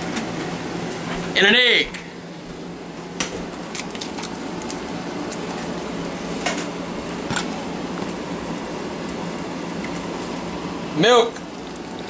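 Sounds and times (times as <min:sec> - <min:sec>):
steady hiss and low hum: 0:00.0 - 0:12.0.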